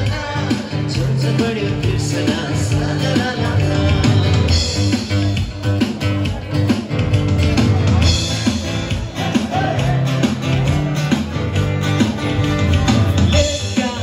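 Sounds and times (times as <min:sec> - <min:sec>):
music with guitar and drums: 0:00.0 - 0:14.0.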